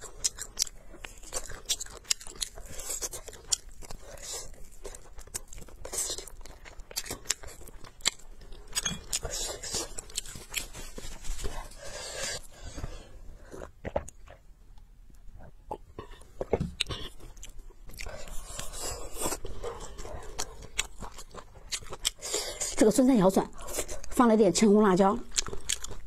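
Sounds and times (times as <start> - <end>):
person chewing crunchy food: 0.0 - 24.2, 25.0 - 26.0.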